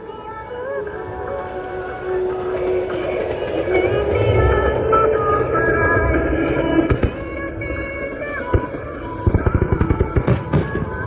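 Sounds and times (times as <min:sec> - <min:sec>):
background music with held tones: 0:00.0 - 0:11.0
firework shells bursting: 0:00.4 - 0:11.0.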